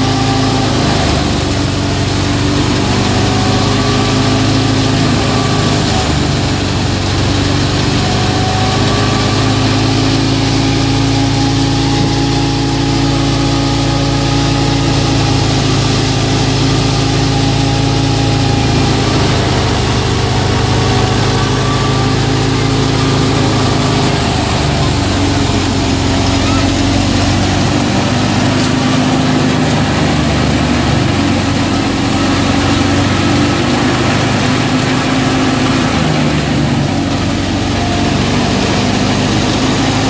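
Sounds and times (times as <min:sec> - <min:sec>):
thresher and tractor droning: 0:00.0 - 0:40.0.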